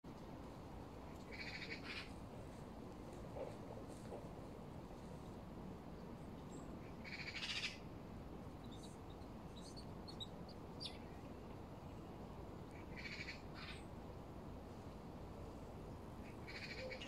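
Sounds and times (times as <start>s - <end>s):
low background noise: 0.1s - 17.0s.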